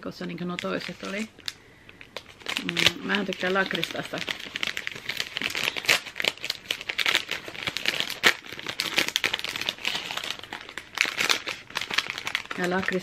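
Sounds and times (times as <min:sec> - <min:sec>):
plastic wrapper crinkling and tearing: 0:00.3 - 0:13.0.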